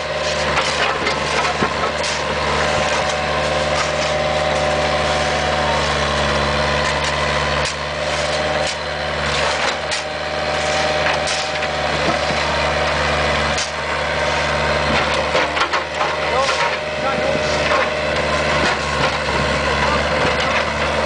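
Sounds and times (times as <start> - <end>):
bucket clanking and scraping asphalt: 0.0 - 21.0
diesel engine running: 0.0 - 21.0.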